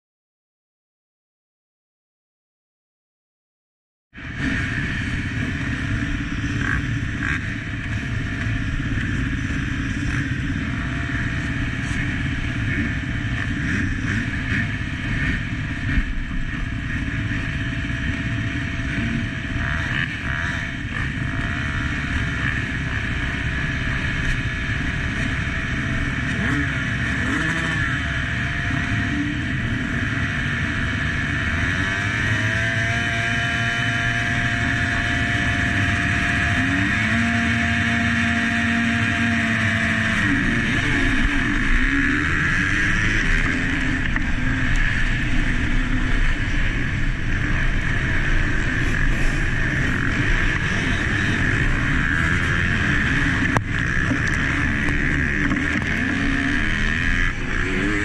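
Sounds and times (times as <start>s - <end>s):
motocross bike engines running: 4.2s - 58.0s.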